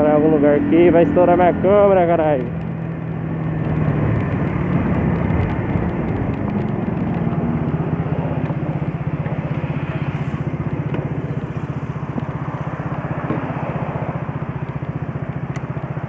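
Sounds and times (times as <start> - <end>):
scooter engine slowing and idling: 0.0 - 16.0.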